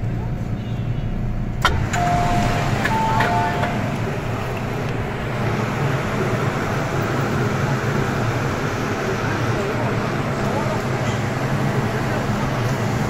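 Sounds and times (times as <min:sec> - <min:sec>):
station platform rumble: 0:00.0 - 0:13.0.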